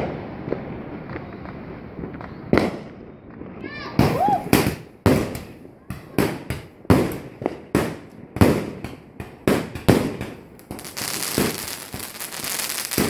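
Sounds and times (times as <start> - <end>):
crackle of burning fireworks: 0.0 - 13.0
fireworks bangs: 0.0 - 13.0.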